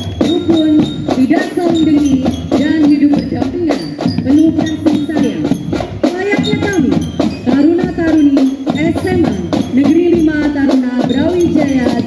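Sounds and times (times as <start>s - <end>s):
drum band playing: 0.0s - 12.0s
drums struck rhythmically: 0.0s - 12.0s.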